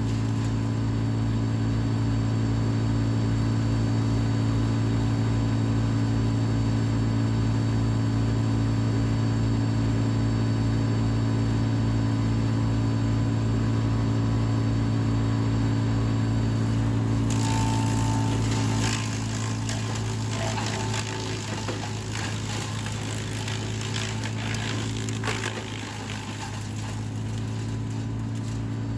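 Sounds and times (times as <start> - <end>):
wood chipper engine running: 0.0 - 28.9.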